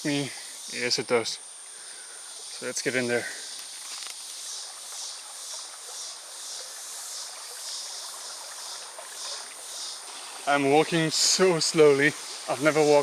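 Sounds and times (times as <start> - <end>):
insects chirping: 0.0 - 13.0
stream water running: 0.0 - 13.0.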